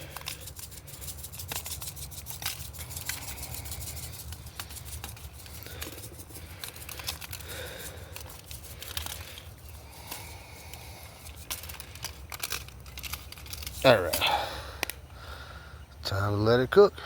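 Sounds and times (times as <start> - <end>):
sharp crackles and pops: 0.0 - 14.0.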